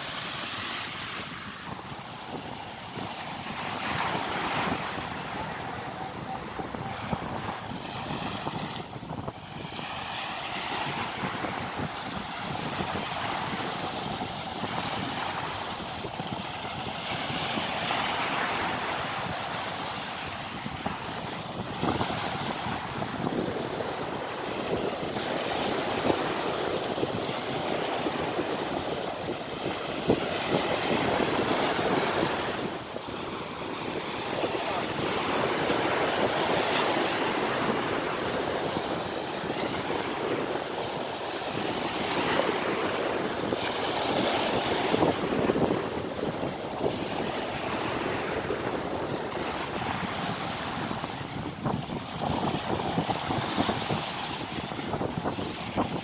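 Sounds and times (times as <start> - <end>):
small waves breaking: 0.0 - 56.0
wind buffeting microphone: 0.0 - 56.0.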